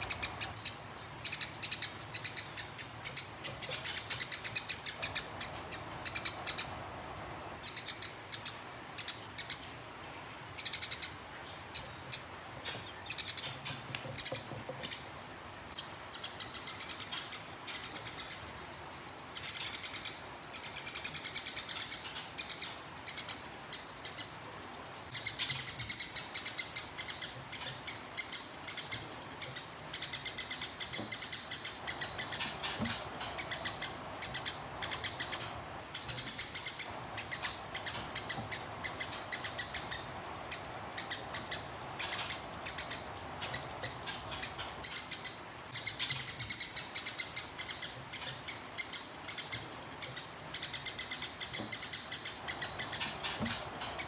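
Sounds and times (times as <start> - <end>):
sparrow chirping and chattering: 0.0 - 9.8, 10.6 - 54.0.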